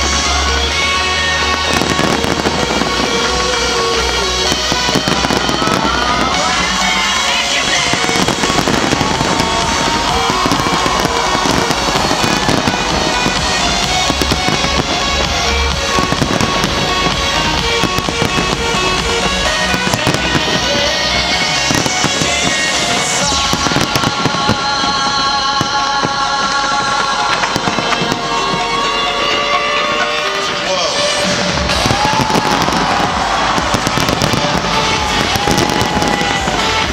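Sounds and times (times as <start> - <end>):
fireworks bursting and crackling: 0.0 - 36.9
music playing: 0.0 - 36.9.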